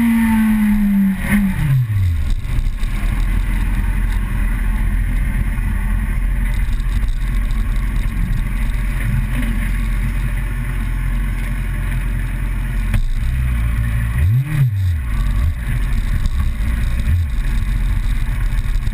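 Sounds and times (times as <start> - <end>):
road noise: 0.0 - 18.9
vehicle engine running: 0.0 - 18.9.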